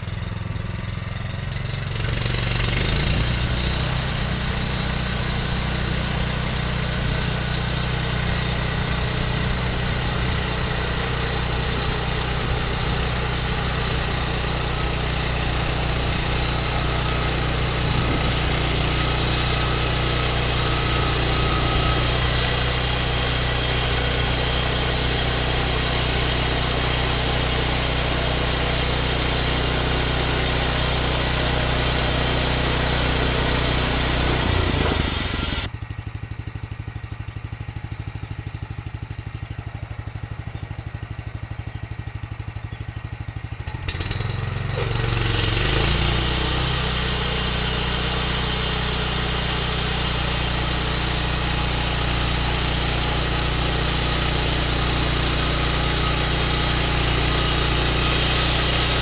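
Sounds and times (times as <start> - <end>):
engine idling: 0.0 - 59.0
band sawmill running: 1.4 - 35.7, 43.7 - 59.0.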